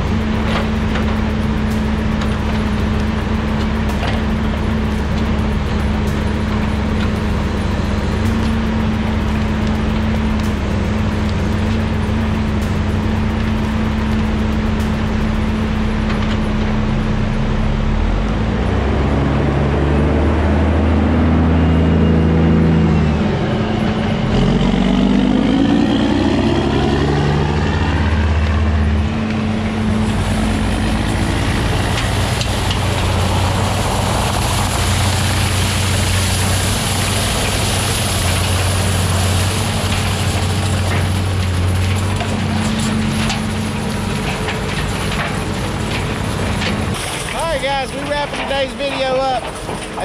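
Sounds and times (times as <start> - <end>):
log loader diesel engines droning: 0.0 - 50.0
truck diesel engine pulling away: 0.0 - 50.0.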